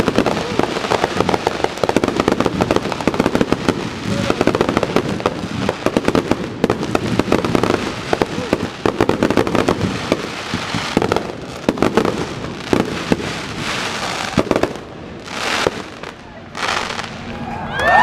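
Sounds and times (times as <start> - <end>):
fireworks bursts and bangs: 0.0 - 17.6.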